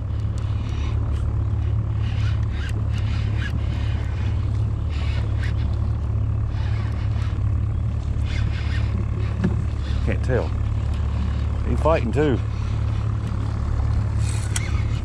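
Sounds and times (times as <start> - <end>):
boat motor humming: 0.0 - 15.0
fishing reel ticking: 0.1 - 15.0.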